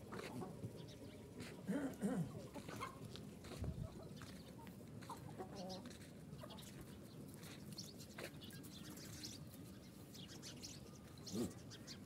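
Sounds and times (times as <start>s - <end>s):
low farm animal call: 0.0s - 7.6s, 8.5s - 12.0s
small birds chirping: 0.1s - 12.0s.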